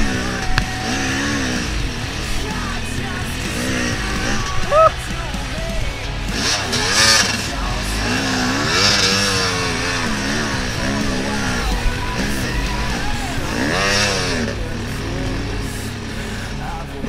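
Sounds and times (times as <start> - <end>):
dirt bike engine revving: 0.0 - 17.0
music playing: 0.0 - 17.0.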